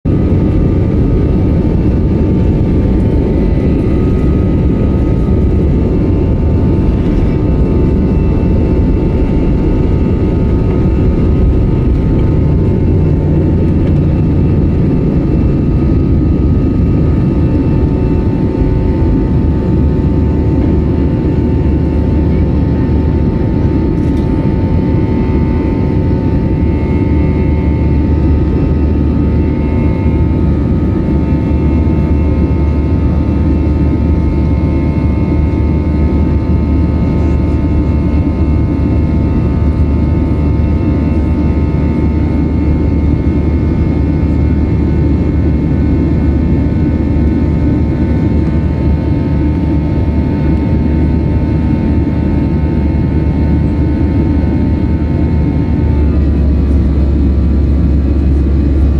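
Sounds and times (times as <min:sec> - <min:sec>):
faint engine whine: 0:00.1 - 0:58.9
jet engines rumbling: 0:00.1 - 0:58.9.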